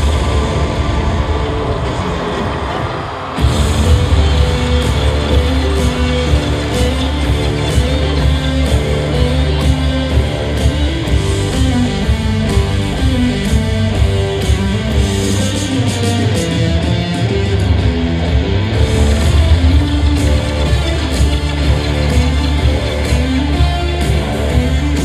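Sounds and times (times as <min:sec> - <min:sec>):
drums keeping a steady beat: 0:00.0 - 0:25.0
electric guitar: 0:00.0 - 0:25.0
live rock band playing: 0:03.4 - 0:25.0.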